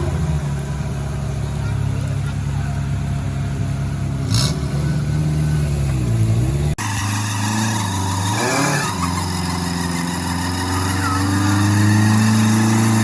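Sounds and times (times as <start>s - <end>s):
engine labouring and revving: 0.0s - 13.0s.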